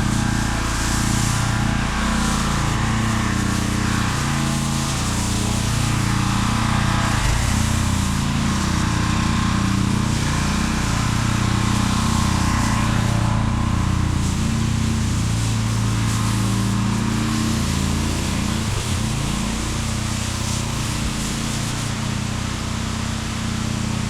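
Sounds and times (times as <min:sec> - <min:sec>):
pressure washer engine running: 0:00.0 - 0:24.0.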